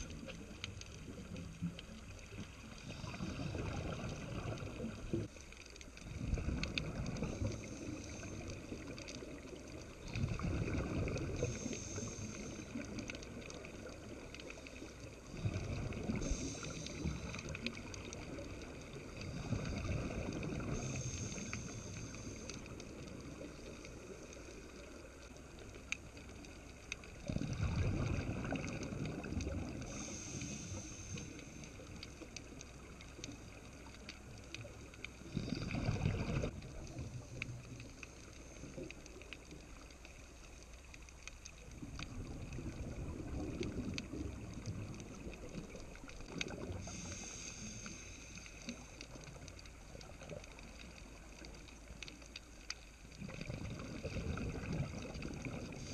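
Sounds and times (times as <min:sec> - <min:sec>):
exhaled bubbles rumbling underwater: 0:00.0 - 0:55.9
faint underwater hiss: 0:00.0 - 0:55.9.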